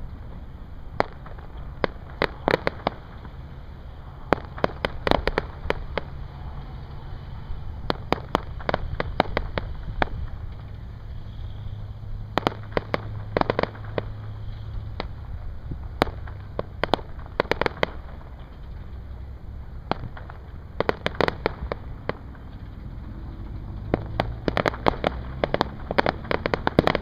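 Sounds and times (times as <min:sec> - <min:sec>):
fireworks cracking and popping: 0:00.0 - 0:27.0
low steady rumble: 0:00.0 - 0:27.0.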